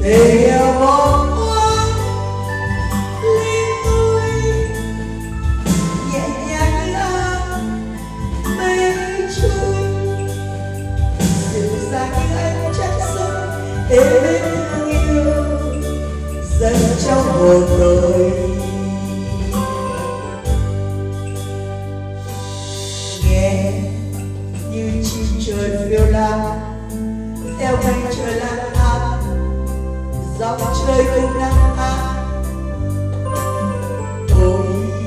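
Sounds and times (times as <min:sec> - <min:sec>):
woman singing a ballad: 0:00.0 - 0:20.8, 0:22.2 - 0:35.0
electronic keyboard accompaniment: 0:00.0 - 0:35.0.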